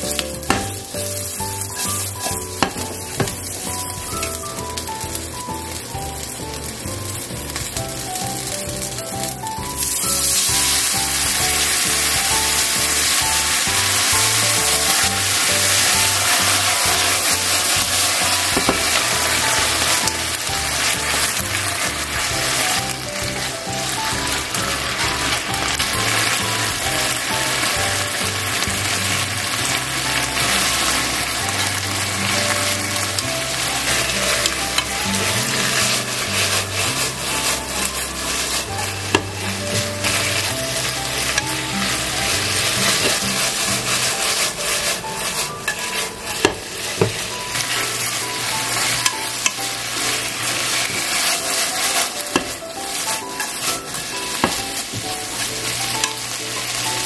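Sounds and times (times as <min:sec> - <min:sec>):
peppers sizzling in a frying pan: 0:00.0 - 0:57.0.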